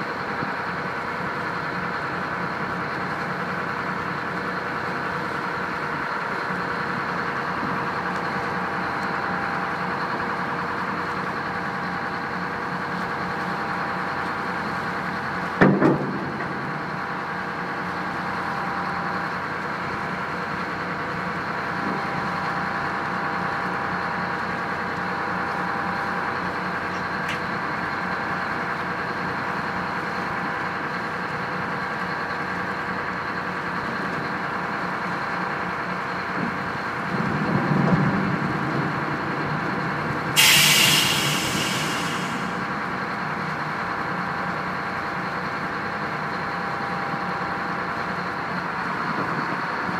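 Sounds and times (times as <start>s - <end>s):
diesel boat engine droning: 0.0s - 49.9s.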